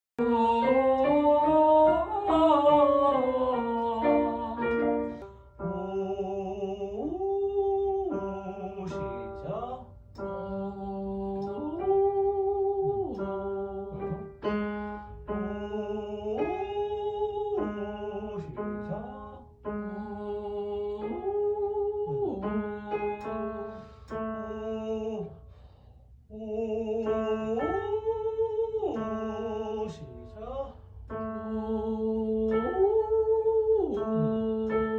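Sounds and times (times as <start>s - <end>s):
person singing vocal exercises: 0.2s - 25.6s, 26.3s - 34.9s.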